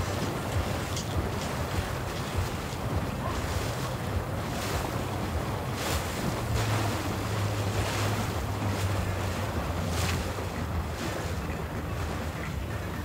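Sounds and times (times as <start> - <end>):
boat engine humming: 0.0 - 13.0
water rushing: 0.0 - 13.0
wind noise on microphone: 0.0 - 13.0.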